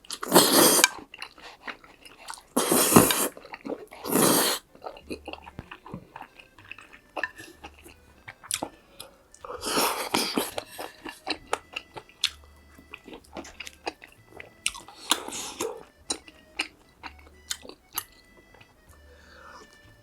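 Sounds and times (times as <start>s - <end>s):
wet mouth clicks: 0.0s - 18.8s
person chewing food: 0.0s - 20.0s.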